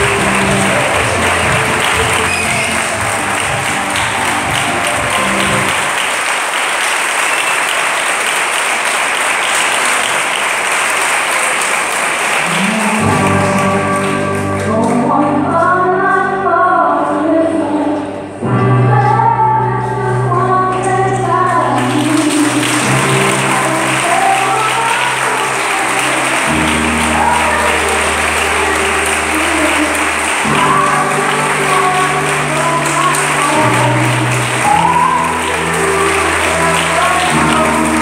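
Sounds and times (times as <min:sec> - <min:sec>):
audience applauding: 0:00.0 - 0:15.0, 0:21.1 - 0:38.0.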